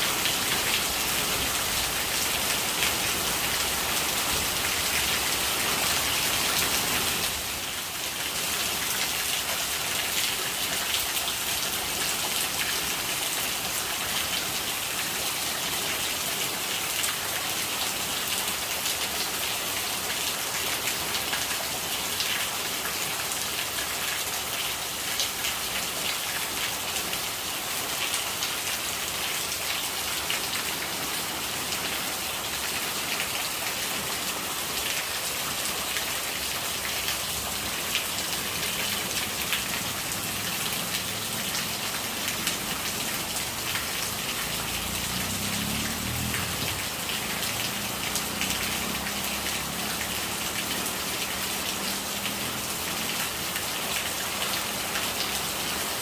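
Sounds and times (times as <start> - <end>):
rain drops pattering: 0.0 - 56.0
rainwater running and gurgling: 0.0 - 56.0.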